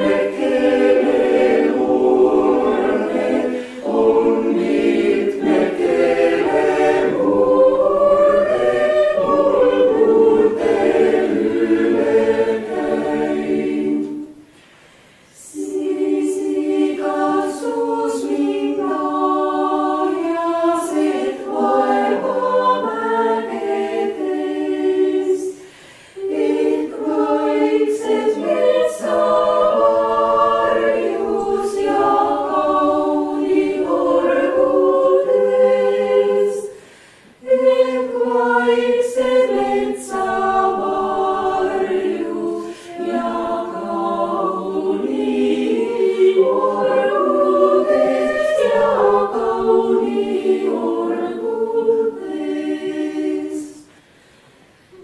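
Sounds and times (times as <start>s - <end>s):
choir singing: 0.0s - 14.6s, 15.3s - 54.1s.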